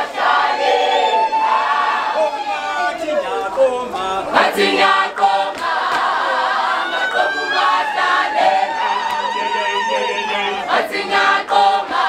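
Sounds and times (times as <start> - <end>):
women singing together unaccompanied: 0.0 - 2.0, 3.1 - 12.0.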